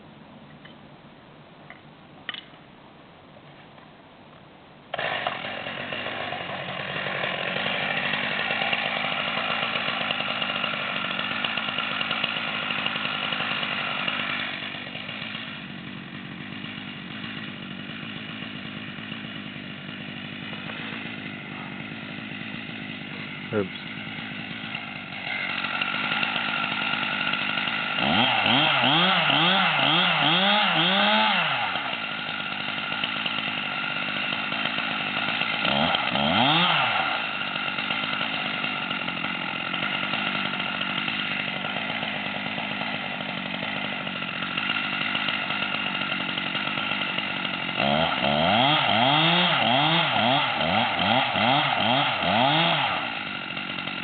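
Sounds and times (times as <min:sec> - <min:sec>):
chainsaw running: 0:04.9 - 0:54.0.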